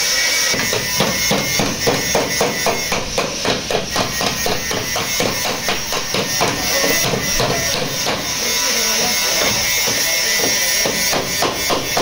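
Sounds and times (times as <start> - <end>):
hammer striking steel: 0.5 - 12.0.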